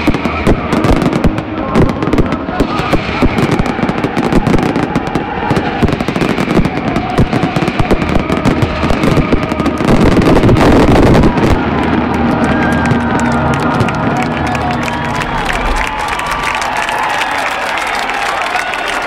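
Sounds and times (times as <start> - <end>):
fireworks bursting: 0.0 - 17.4.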